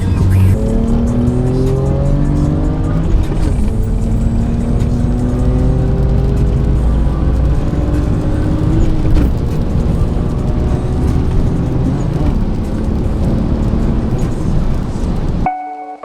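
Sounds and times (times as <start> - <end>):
car engine: 0.0 - 15.5
road noise: 0.0 - 15.5.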